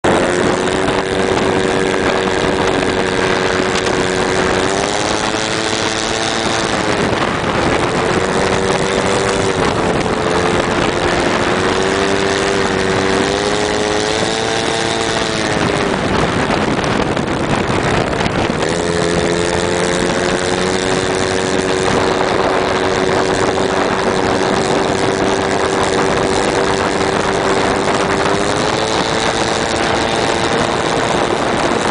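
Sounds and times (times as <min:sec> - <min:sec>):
motorbike engine revving: 0:00.0 - 0:31.9
wind rushing: 0:00.0 - 0:31.9.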